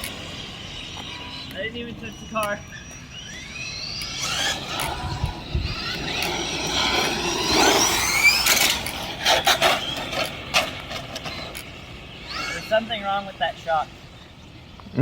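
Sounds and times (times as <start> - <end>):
electric rc car motor whining: 0.0 - 15.0.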